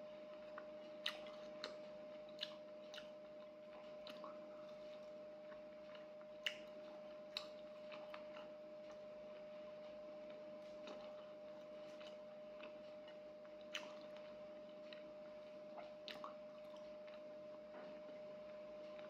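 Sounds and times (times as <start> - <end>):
faint steady hum: 0.0 - 19.0
person chewing: 0.4 - 9.0, 9.8 - 17.3.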